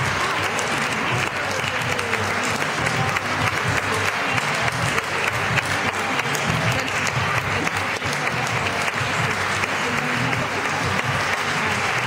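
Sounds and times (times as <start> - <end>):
audience applauding: 0.0 - 12.0
music playing: 0.0 - 12.0.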